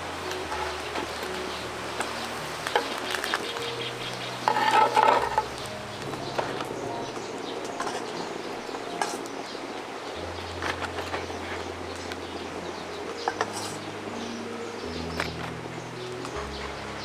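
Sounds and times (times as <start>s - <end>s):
birds chirping: 0.0s - 17.0s
steady hiss: 0.0s - 17.0s.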